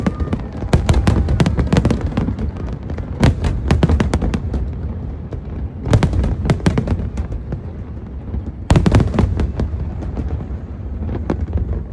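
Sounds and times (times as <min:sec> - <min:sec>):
fireworks exploding: 0:00.0 - 0:11.9.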